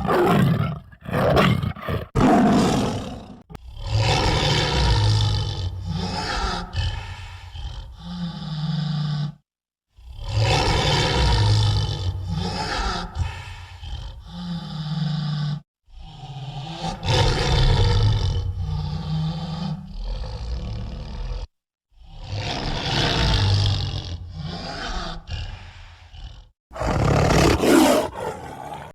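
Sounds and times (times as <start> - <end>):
creature growls and roars: 0.0 - 28.9.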